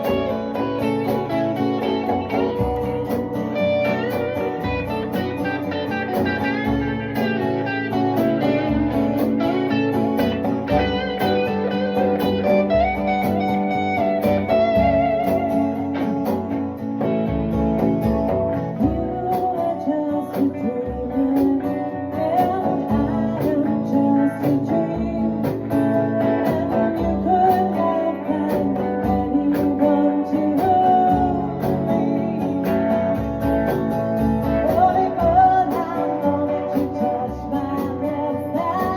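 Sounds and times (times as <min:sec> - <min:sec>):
guitar accompaniment: 0:00.0 - 0:38.9
lead guitar melody: 0:00.0 - 0:38.9.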